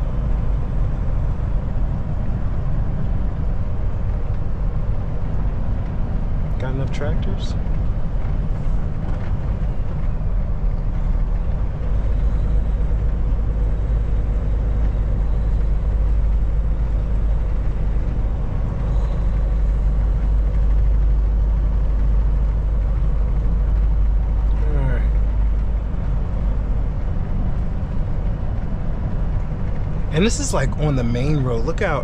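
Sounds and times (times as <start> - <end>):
road noise: 0.0 - 32.0
truck engine drone: 0.0 - 32.0.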